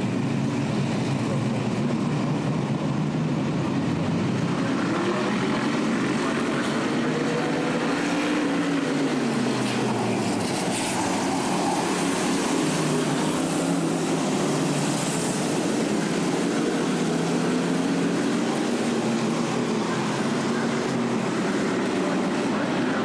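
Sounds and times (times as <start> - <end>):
racing car engines droning: 0.0 - 23.0.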